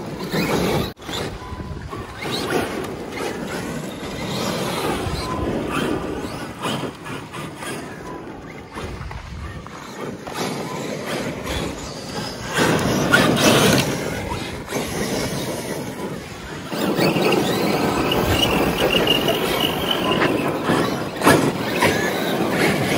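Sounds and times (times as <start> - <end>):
rc trucks driving on dirt: 0.0 - 22.9
tyres spinning and spraying gravel: 0.0 - 22.9.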